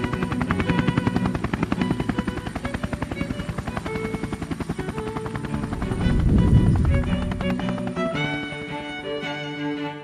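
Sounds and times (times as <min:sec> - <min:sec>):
background music: 0:00.0 - 0:10.0
helicopter rotor chopping: 0:00.0 - 0:10.0.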